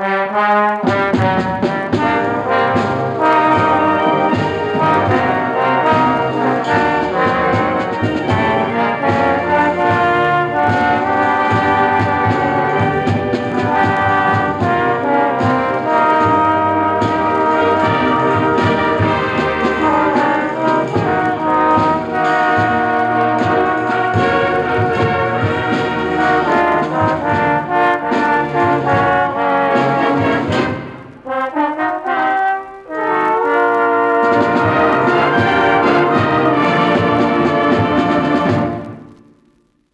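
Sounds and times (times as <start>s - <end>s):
school band playing with brass: 0.0s - 39.4s.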